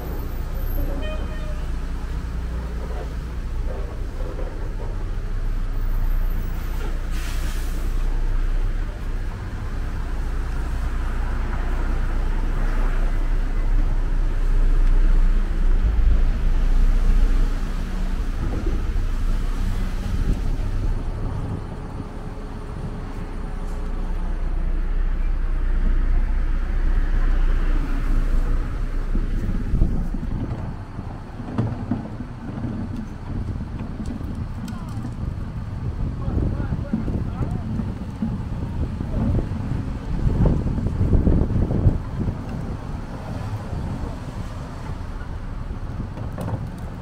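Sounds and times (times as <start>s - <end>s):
cars passing on wet road: 0.0s - 47.0s
low traffic rumble: 0.0s - 47.0s.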